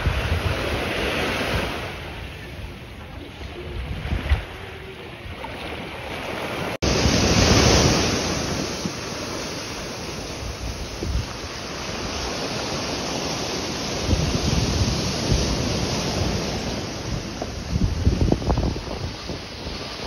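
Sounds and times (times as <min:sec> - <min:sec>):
wind buffeting microphone: 0:00.0 - 0:05.4, 0:06.8 - 0:20.0
waves splashing over rocks: 0:00.0 - 0:20.0.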